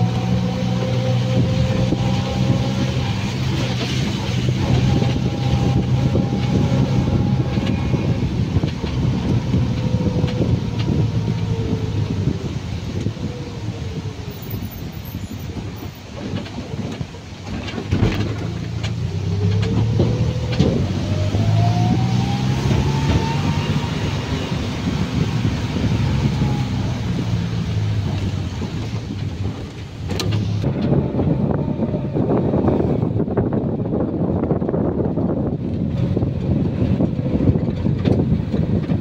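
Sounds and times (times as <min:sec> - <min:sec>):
road noise: 0:00.0 - 0:39.0
vehicle engine whine: 0:00.0 - 0:39.0.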